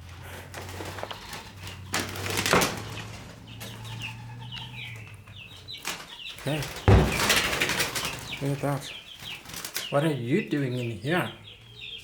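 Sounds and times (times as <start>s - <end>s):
rustling bursts: 0.0s - 9.9s
chicks peeping: 0.0s - 12.0s.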